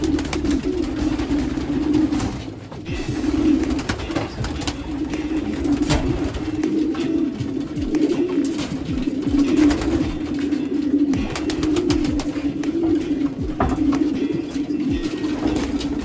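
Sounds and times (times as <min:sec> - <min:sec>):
pigeons cooing: 0:00.0 - 0:16.0
wing flaps: 0:00.0 - 0:16.0.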